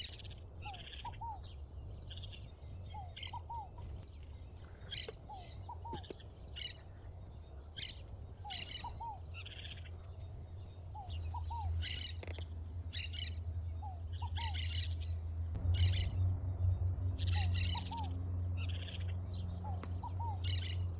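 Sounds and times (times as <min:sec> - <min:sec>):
birds chirping: 0:00.0 - 0:20.9
steady low rumble: 0:00.0 - 0:20.9.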